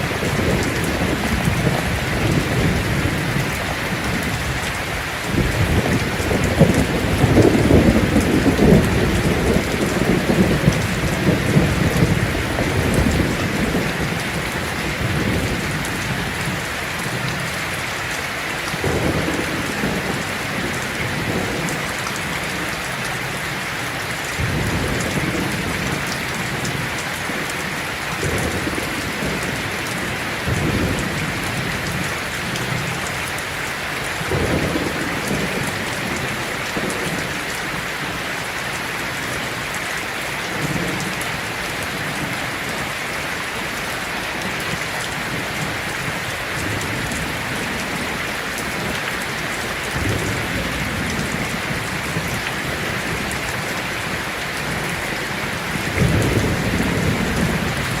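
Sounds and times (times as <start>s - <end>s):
thunder rumbling: 0.0s - 17.7s, 18.7s - 23.4s, 24.4s - 37.9s, 44.4s - 58.0s
heavy rain on a tin roof: 0.0s - 58.0s.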